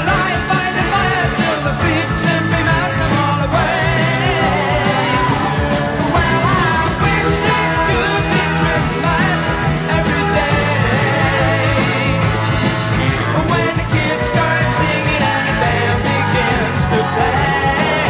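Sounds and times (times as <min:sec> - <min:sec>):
rock song with singing: 0:00.0 - 0:18.0.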